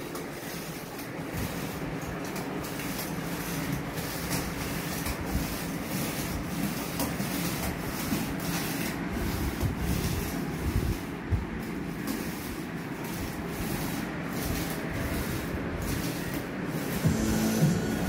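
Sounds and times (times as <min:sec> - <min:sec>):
skate wheels rolling on tile: 0:00.0 - 0:18.0.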